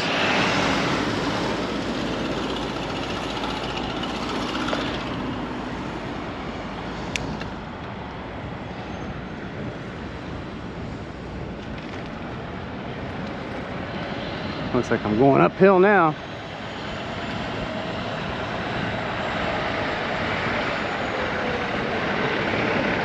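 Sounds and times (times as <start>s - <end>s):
passing traffic: 0.0s - 23.0s.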